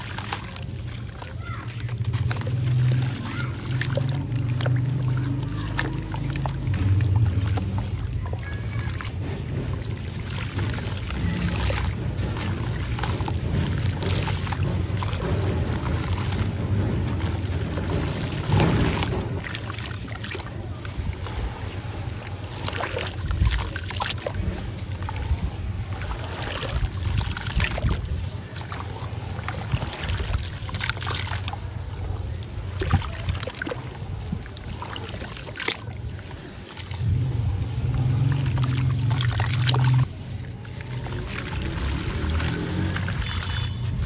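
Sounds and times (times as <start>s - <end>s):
hands squelching wet cement slurry: 0.0s - 44.0s
water splashes: 0.0s - 44.0s.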